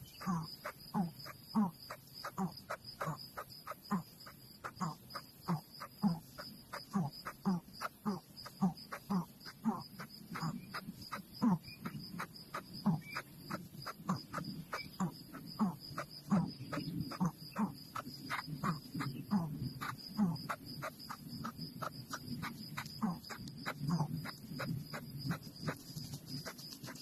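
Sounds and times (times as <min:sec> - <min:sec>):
frogs croaking: 0:00.0 - 0:27.0
insect high-pitched trill: 0:00.0 - 0:27.0.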